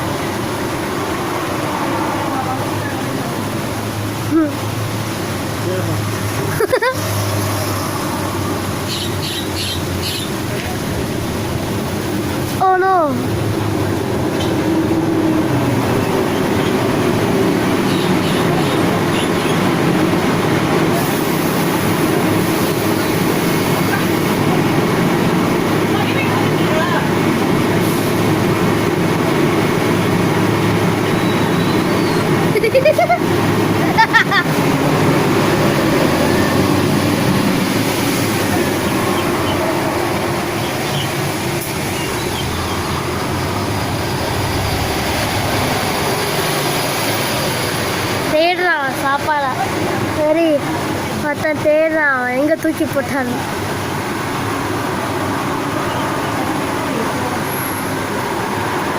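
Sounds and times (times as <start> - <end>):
moving vehicle rumble: 0.0 - 58.9.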